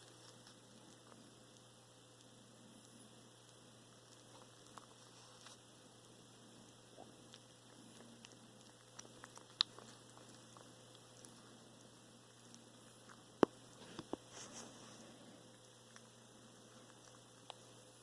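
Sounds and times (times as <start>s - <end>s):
cat chewing food: 0.0s - 18.0s
faint steady hum: 0.0s - 18.0s.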